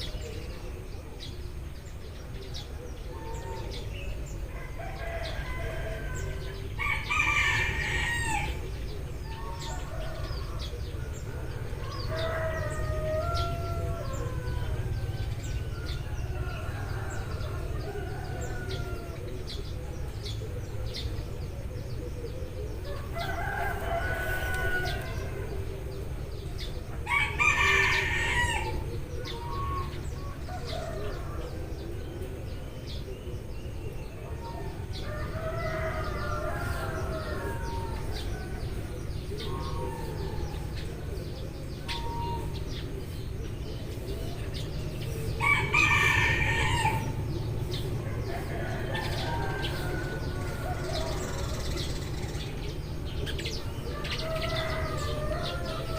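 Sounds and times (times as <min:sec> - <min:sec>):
roosters crowing: 0:00.0 - 0:55.9
sparrows chirping: 0:00.0 - 0:55.9.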